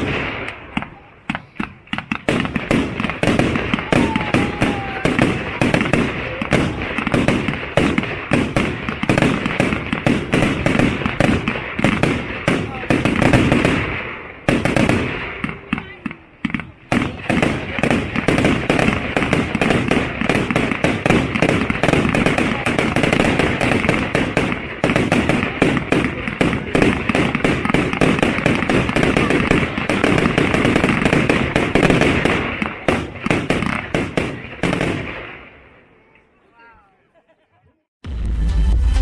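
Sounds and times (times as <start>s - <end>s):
fireworks cake firing shells: 0.0s - 15.7s, 16.4s - 35.2s.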